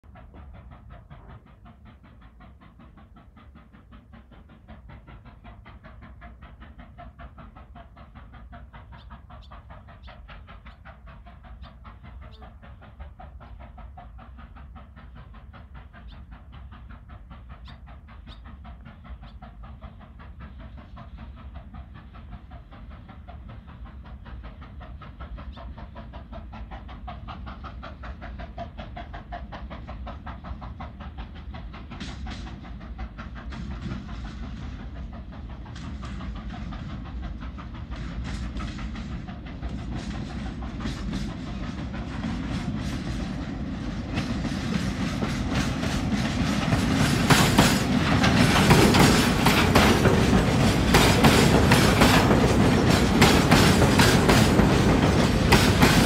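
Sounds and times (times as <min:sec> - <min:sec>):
steam locomotive hauling train: 0:00.0 - 0:56.0.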